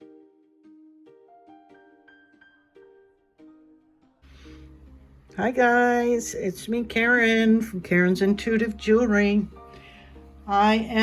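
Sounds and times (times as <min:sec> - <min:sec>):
soft background melody: 0:00.0 - 0:11.0.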